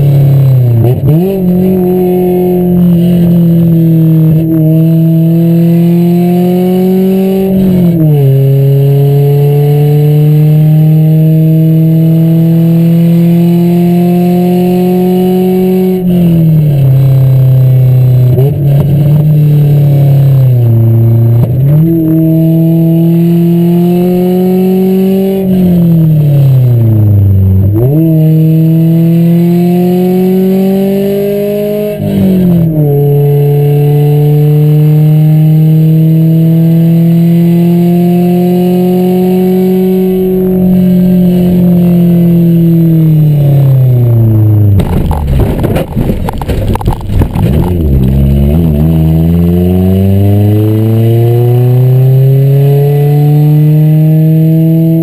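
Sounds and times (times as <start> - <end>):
car engine revving from inside cabin: 0.0 - 44.8, 47.4 - 55.0.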